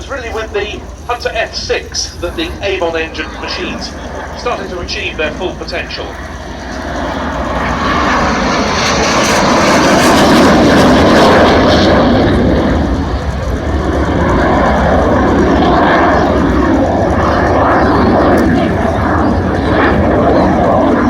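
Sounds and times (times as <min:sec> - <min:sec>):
jet fighter flying past: 0:00.0 - 0:21.0.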